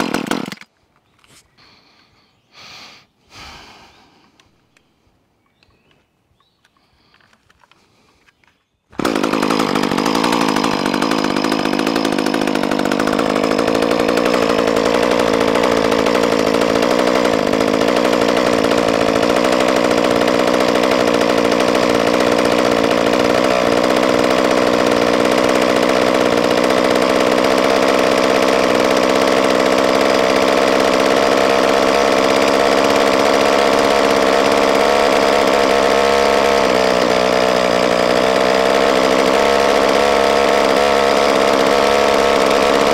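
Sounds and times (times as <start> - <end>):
chainsaw engine idling: 0.0 - 0.7, 1.6 - 4.4, 8.9 - 42.9.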